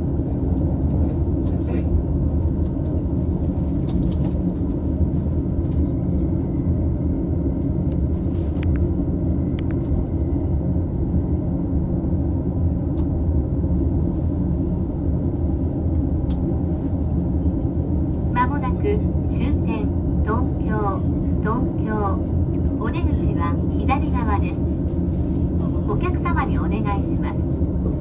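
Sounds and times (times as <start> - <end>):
train interior rumble: 0.0 - 28.0.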